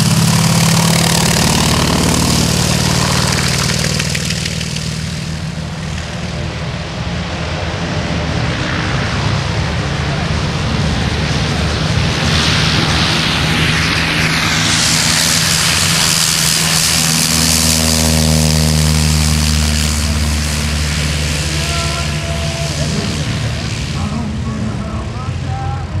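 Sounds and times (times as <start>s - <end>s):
propeller aircraft at takeoff power: 0.0s - 26.0s.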